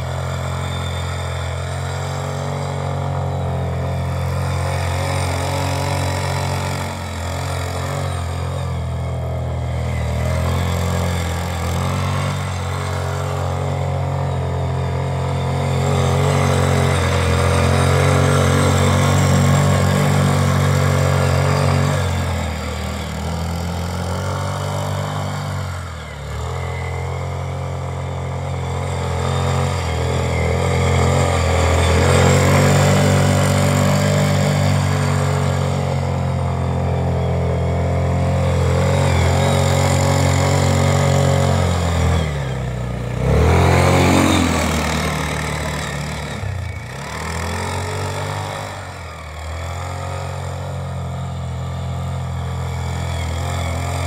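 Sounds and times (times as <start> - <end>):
atv engine running under load: 0.0 - 54.0.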